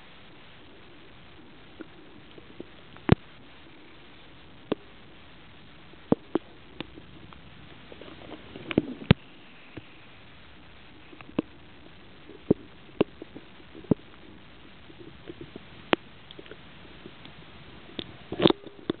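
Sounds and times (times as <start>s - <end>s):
low underwater hiss: 0.0s - 19.0s.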